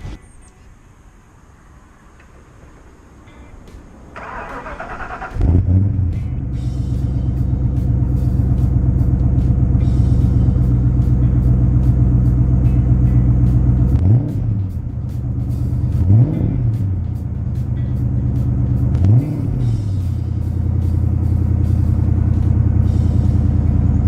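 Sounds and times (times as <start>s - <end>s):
car engine idling: 0.0s - 24.0s
engine revving: 4.1s - 24.0s.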